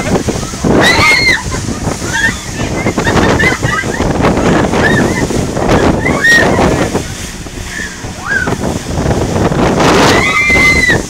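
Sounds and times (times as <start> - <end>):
outboard motor: 0.0 - 11.0
water rushing and splashing: 0.0 - 11.0
wind buffeting microphone: 0.0 - 11.0.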